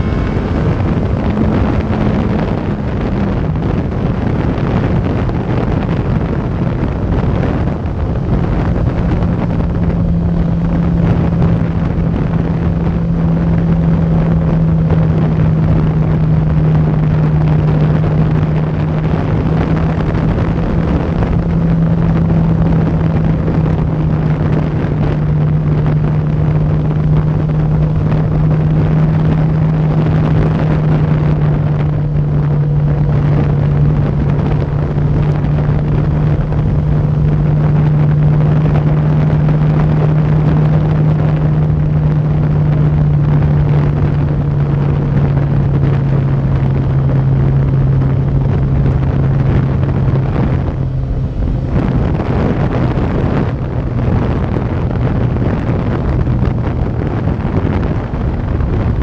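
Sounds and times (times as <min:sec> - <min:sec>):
motorcycle engine droning: 0:00.0 - 0:59.0
wind on microphone: 0:00.0 - 0:59.0.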